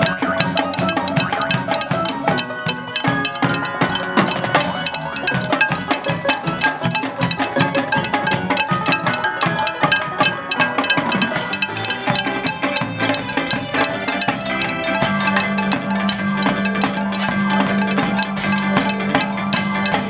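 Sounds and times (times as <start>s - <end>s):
frying pans drummed with drumsticks: 0.0s - 20.0s.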